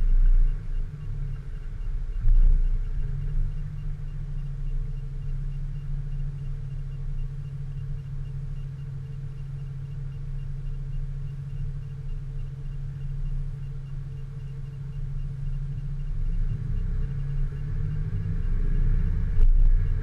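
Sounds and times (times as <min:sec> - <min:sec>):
faint regular ticking: 0:00.0 - 0:20.0
vehicle engine humming: 0:00.0 - 0:20.0.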